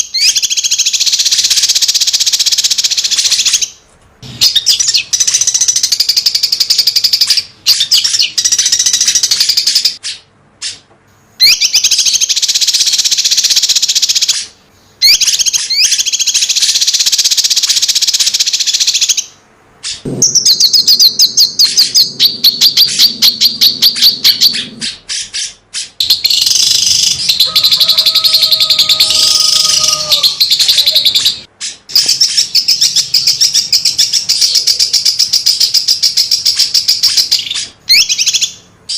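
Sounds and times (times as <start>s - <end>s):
songbird rapid chirps: 0.0s - 38.9s.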